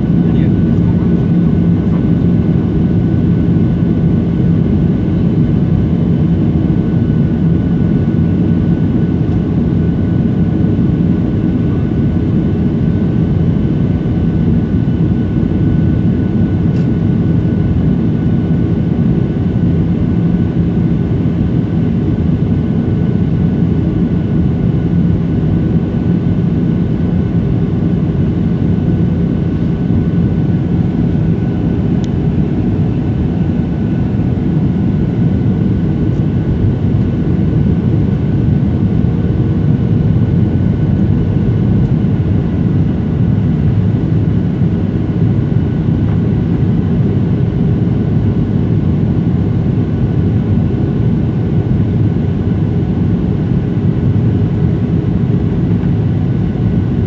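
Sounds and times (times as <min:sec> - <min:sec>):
jet engine and airflow noise: 0:00.0 - 0:57.0.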